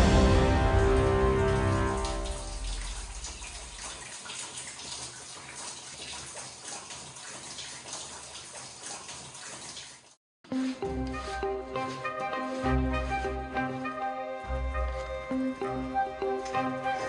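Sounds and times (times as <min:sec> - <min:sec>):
running splashing water: 0:00.0 - 0:17.0.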